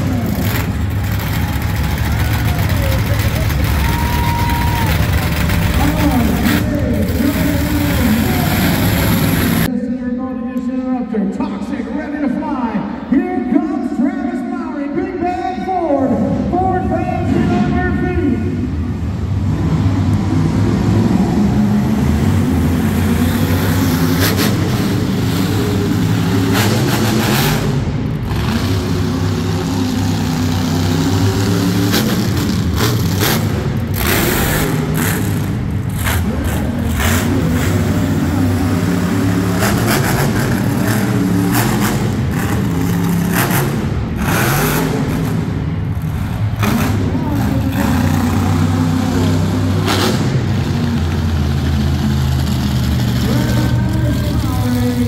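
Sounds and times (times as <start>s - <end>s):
monster truck engine revving: 0.0s - 9.7s, 16.3s - 55.0s.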